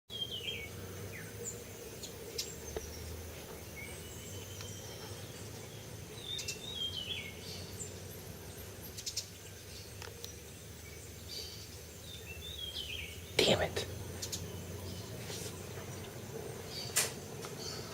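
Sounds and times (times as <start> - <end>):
low background hum: 0.1 - 17.9.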